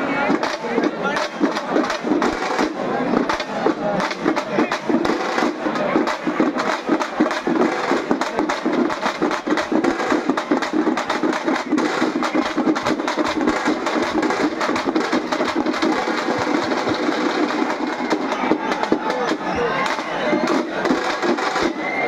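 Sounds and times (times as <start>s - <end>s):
drums beaten fast: 0.0s - 22.0s.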